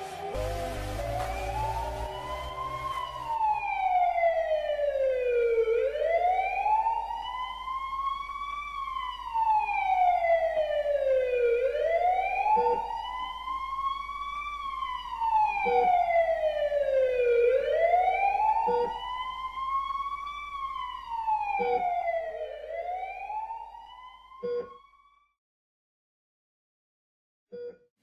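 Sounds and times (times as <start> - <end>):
siren wailing: 0.0 - 25.2.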